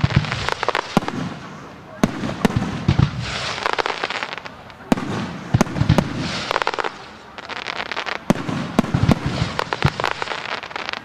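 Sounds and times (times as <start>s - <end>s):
firework bangs: 0.0s - 11.0s
fireworks hissing and crackling: 0.0s - 11.0s.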